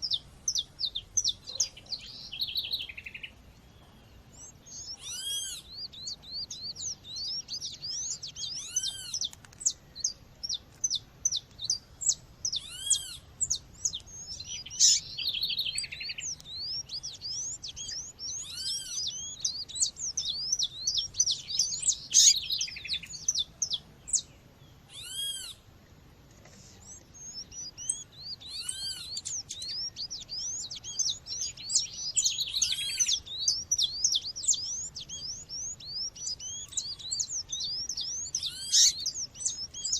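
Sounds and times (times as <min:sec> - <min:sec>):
bird calling in high chirps: 0:00.0 - 0:24.3, 0:24.9 - 0:25.6, 0:26.6 - 0:39.9.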